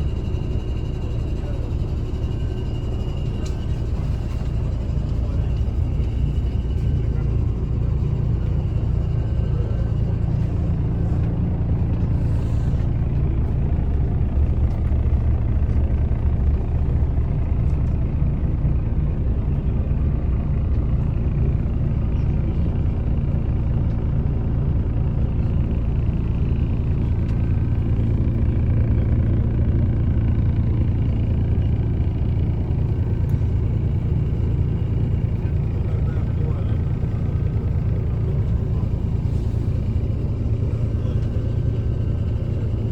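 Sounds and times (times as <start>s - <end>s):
bus diesel engine drone: 0.0s - 42.9s
road rumble: 0.0s - 42.9s.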